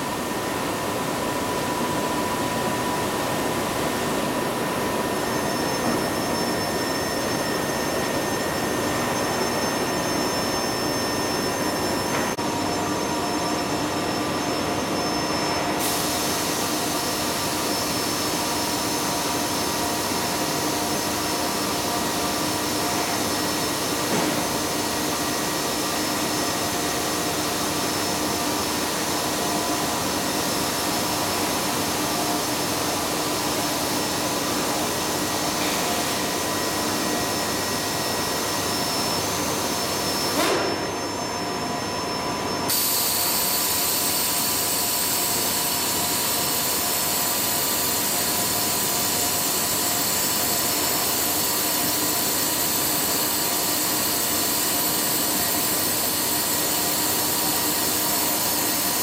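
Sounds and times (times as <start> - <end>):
printer whirring and humming: 0.0 - 59.0.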